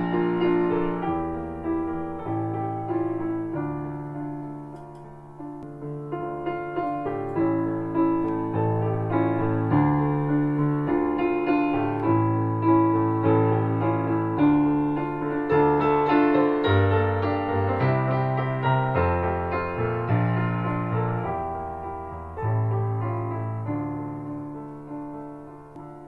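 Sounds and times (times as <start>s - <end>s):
gentle solo piano: 0.0s - 26.0s.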